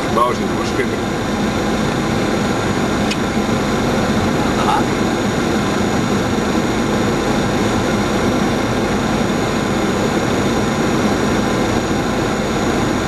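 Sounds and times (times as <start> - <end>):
airflow and engine rush: 0.0 - 13.0.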